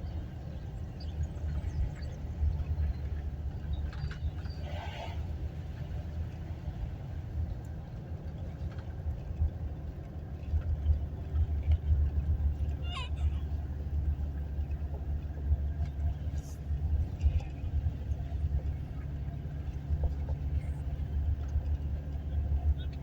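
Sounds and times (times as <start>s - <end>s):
pickup truck low rumble: 0.0s - 23.0s.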